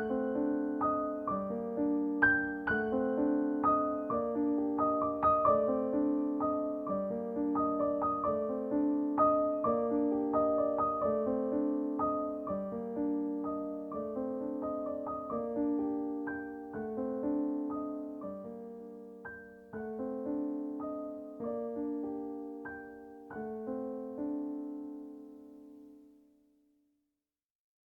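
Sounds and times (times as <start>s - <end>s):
gentle piano piece: 0.0s - 26.4s.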